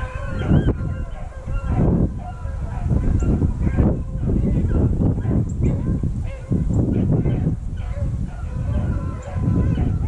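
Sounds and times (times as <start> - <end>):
hounds faintly baying: 0.0 - 10.0
wind buffeting microphone: 0.0 - 10.0.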